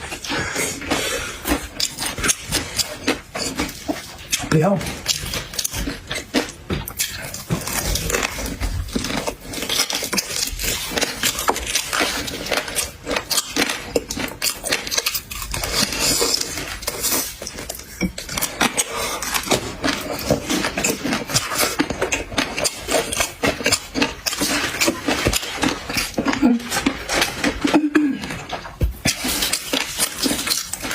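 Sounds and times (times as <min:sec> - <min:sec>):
chewing and crunching: 0:00.0 - 0:30.9.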